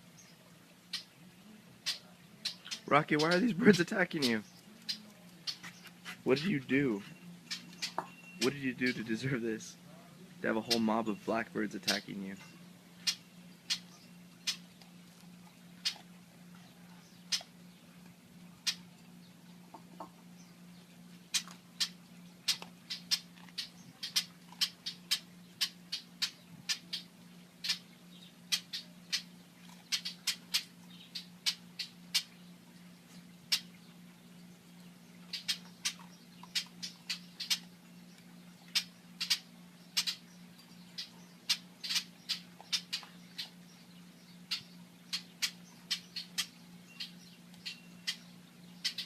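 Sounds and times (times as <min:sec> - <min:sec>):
steady low hum: 0:00.0 - 0:49.0
blackbird alarm calls: 0:00.2 - 0:01.2, 0:01.8 - 0:49.0.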